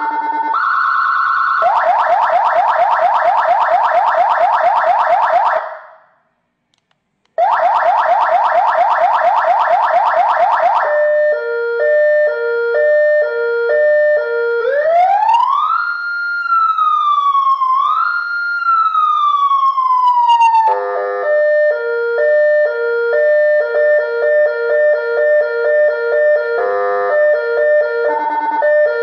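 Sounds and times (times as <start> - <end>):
electronic siren horn cycling tones: 0.0 - 6.0, 7.4 - 16.5, 20.5 - 29.0.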